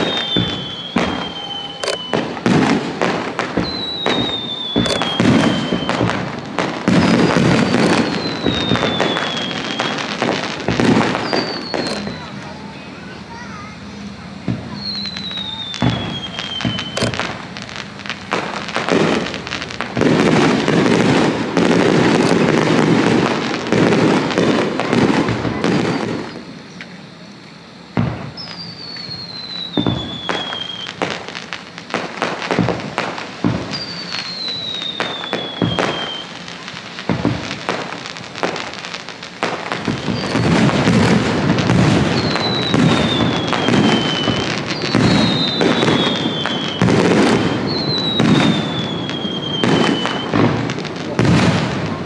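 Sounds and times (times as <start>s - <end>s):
firework shells bursting: 0.0s - 52.0s
firework whistles falling in pitch: 0.0s - 52.0s
fireworks crackling: 0.0s - 52.0s.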